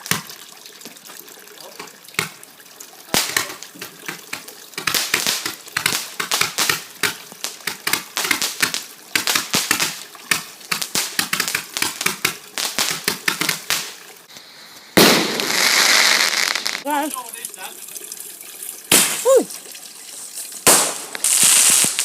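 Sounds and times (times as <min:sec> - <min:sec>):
bonfire crackling and popping: 0:00.0 - 0:17.7, 0:18.8 - 0:19.5, 0:20.3 - 0:22.0.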